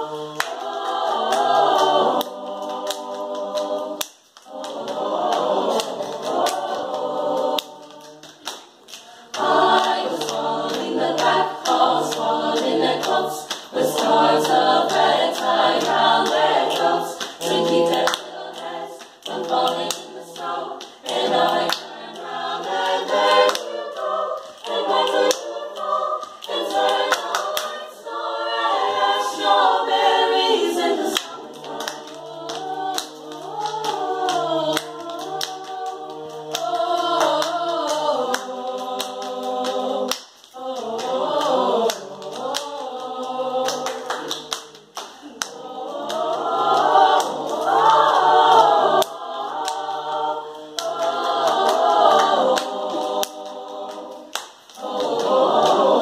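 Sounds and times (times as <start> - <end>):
hand claps: 0.0 - 27.9, 28.7 - 56.0
choir singing a cappella: 0.0 - 56.0.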